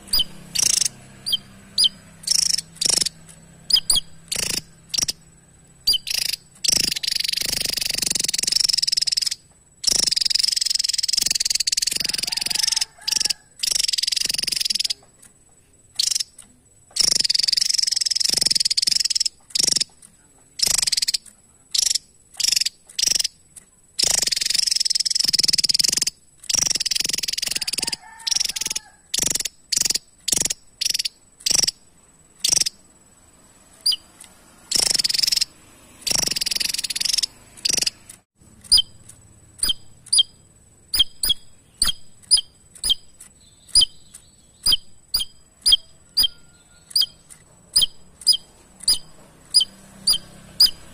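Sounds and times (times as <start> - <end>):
bird sharp chips: 0.0 - 5.3, 5.9 - 32.9, 33.8 - 50.9
bird singing buzzy runs: 0.0 - 50.9.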